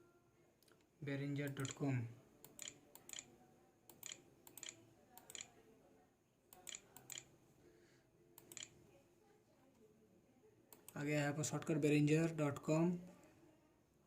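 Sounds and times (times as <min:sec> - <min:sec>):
low room noise: 0:00.0 - 0:14.0.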